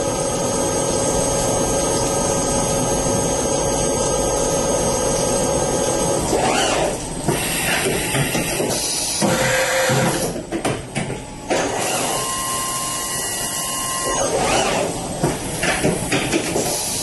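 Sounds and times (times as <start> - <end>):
steady machine whine: 0.0 - 10.4, 11.2 - 15.7.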